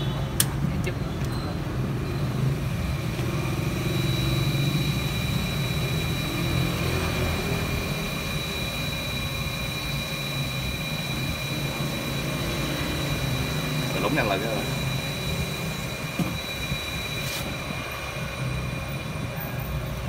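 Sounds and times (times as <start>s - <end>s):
high whining tones: 1.7s - 20.0s
electric motor humming: 2.4s - 20.0s.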